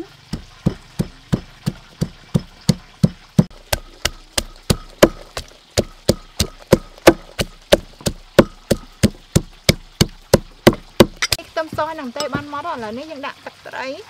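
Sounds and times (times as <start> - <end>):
pestle pounding in a mortar: 0.2 - 12.6.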